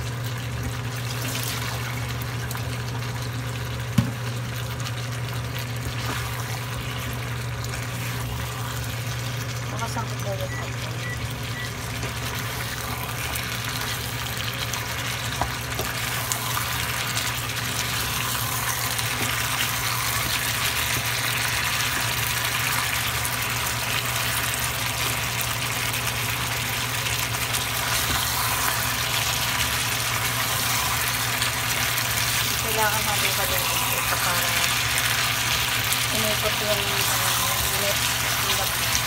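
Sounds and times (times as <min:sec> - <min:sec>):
chicken sizzling in a frying pan: 0:00.0 - 0:39.0.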